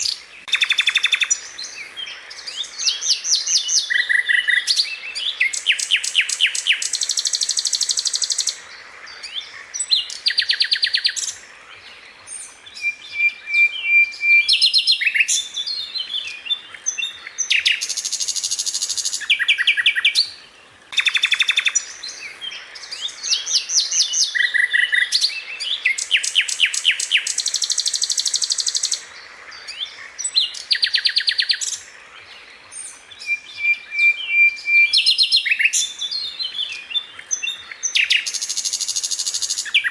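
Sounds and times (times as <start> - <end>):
flycatcher trilling song: 0.0 - 39.9.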